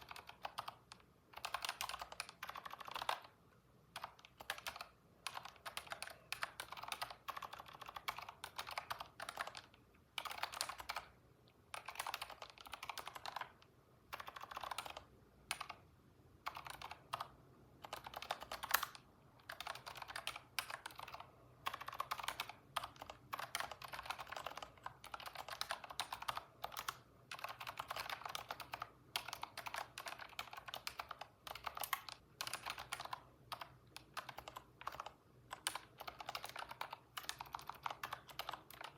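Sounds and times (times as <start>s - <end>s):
computer keyboard typing: 0.0s - 38.9s.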